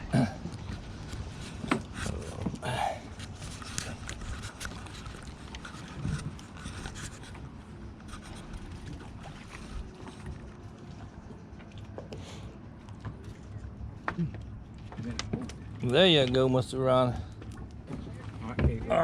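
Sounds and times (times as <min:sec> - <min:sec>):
boat engine rumble: 0:00.0 - 0:19.0.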